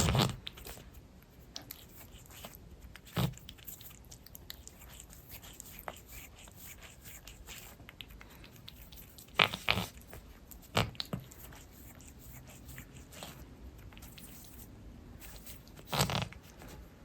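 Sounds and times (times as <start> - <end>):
cat licking fur: 0.0 - 16.4.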